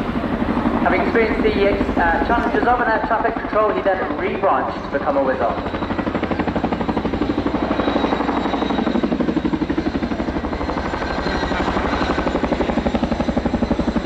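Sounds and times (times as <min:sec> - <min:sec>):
helicopter rotor blades beating: 0:00.0 - 0:14.0.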